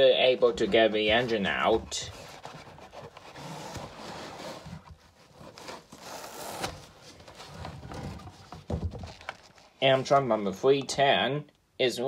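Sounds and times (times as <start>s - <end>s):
packaging scraping and rustling: 0.2s - 10.2s.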